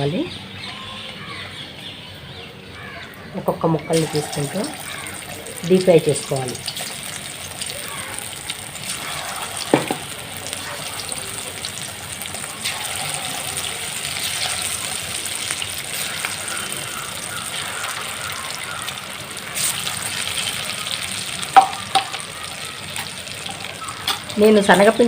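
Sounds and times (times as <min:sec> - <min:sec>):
chicken deep-frying in oil: 0:03.0 - 0:25.0.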